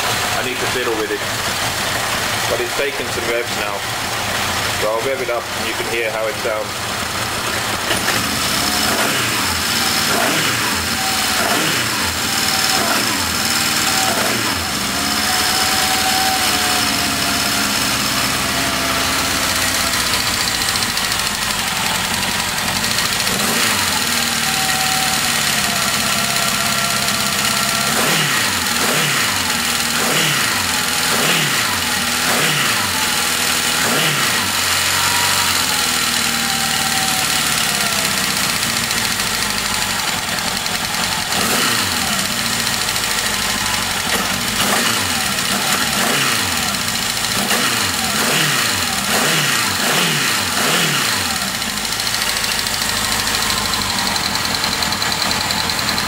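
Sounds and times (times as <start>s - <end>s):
motorcycle engine revving: 0.0s - 56.0s
rough engine idle: 0.0s - 56.0s.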